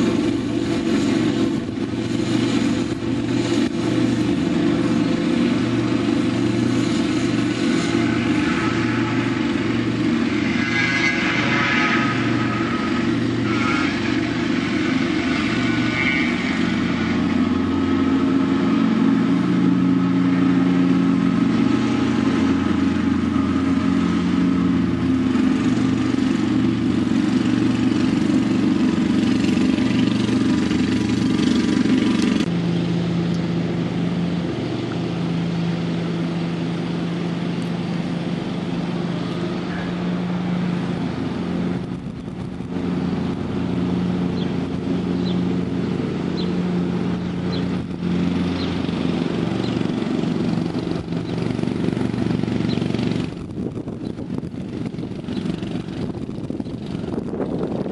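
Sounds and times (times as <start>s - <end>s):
ride-on mower engine running: 0.0s - 57.9s.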